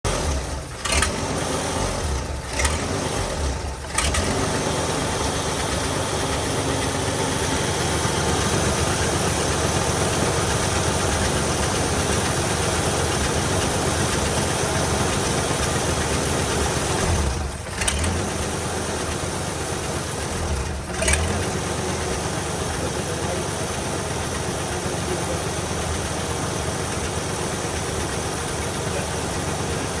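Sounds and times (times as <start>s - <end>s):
engine running with stumbles: 0.1s - 30.0s.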